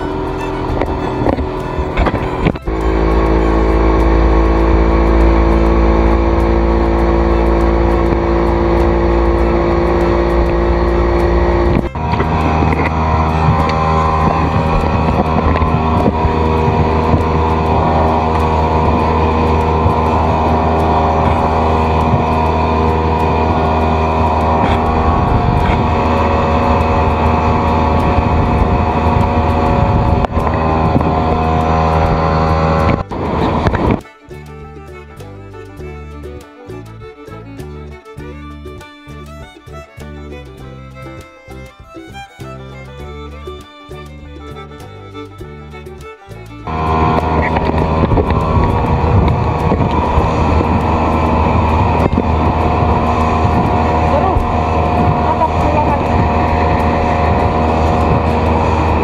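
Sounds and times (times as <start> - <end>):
wake rushing: 0.0 - 36.0, 45.3 - 59.0
boat engine running: 0.0 - 59.0
low wind rumble: 0.0 - 59.0.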